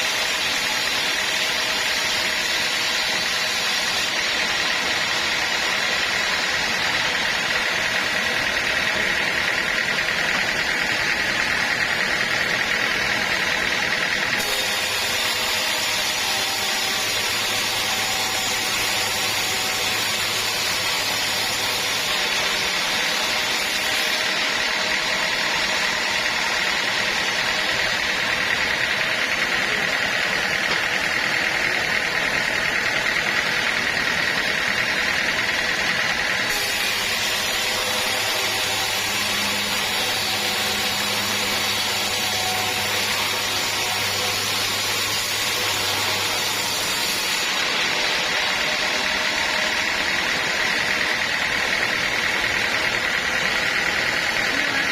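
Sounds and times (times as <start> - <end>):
sawmill machinery sawing log: 0.0 - 54.9.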